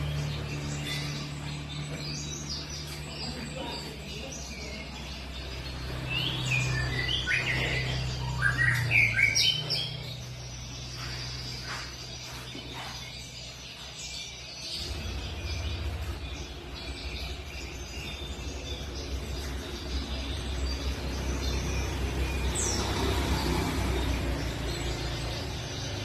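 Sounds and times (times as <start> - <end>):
songbirds chirping and singing: 0.0 - 26.0.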